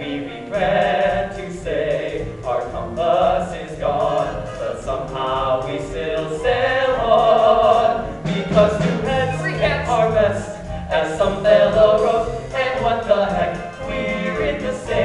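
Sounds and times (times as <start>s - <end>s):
group singing in harmony: 0.0s - 15.0s
musical accompaniment: 0.0s - 15.0s.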